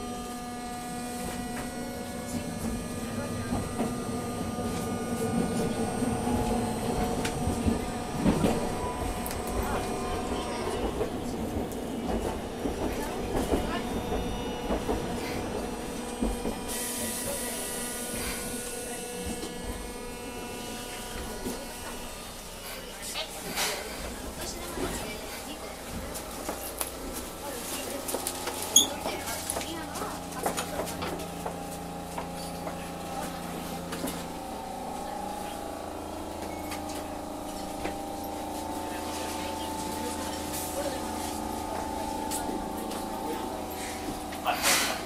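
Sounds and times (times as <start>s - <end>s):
tram motor whine: 0.0s - 45.0s
wheel and rail rumble: 0.0s - 45.0s.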